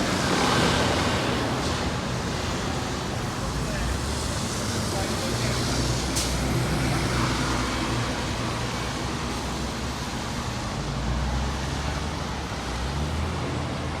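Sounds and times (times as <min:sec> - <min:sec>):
diesel bus engine drone: 0:00.0 - 0:14.0
road noise: 0:00.0 - 0:14.0.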